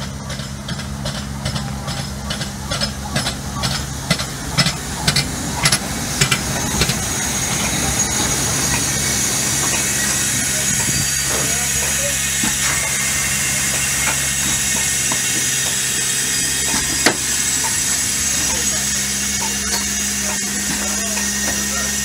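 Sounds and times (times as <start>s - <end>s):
locomotive wheels clicking and clanking: 0.0s - 22.0s
steam hissing: 1.2s - 22.0s.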